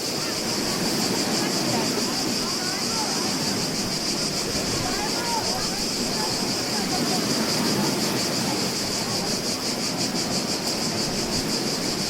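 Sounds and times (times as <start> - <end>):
cicadas buzzing: 0.0 - 12.0
sea surf washing: 0.0 - 12.0.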